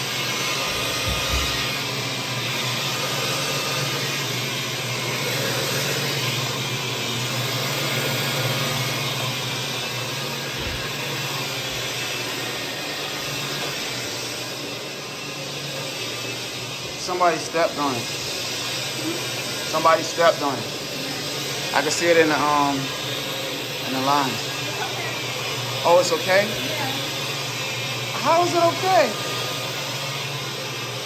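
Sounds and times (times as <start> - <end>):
carpet cleaner suction hiss: 0.0 - 31.0.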